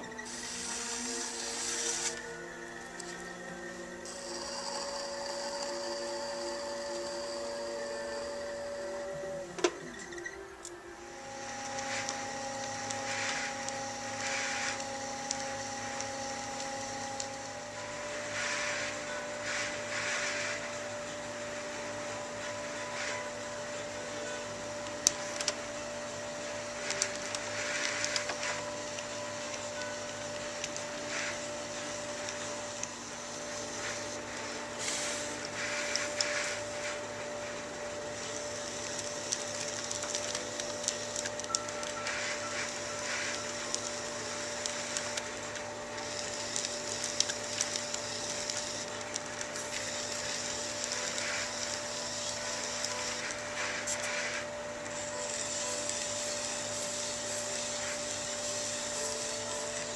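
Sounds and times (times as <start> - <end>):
potter's wheel motor humming: 0.0 - 59.9.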